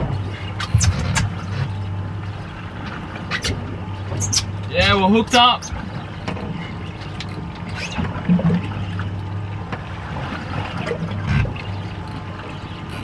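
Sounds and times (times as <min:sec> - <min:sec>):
boat engine idling: 0:00.0 - 0:13.0
water sloshing against hull: 0:00.0 - 0:13.0.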